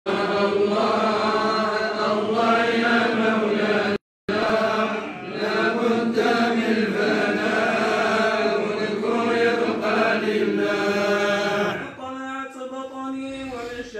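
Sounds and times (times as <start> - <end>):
men chanting together: 0.1 - 12.0.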